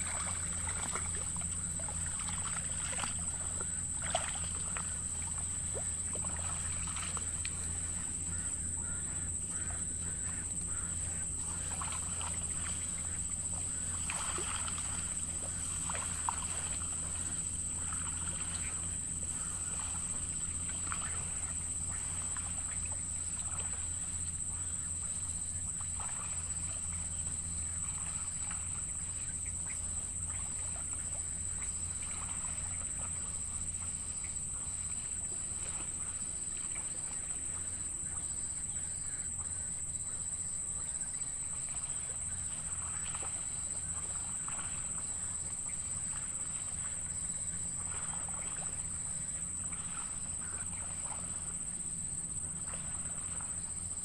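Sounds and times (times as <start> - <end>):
high-pitched insect drone: 0.0 - 54.0
low steady hum: 0.0 - 54.0.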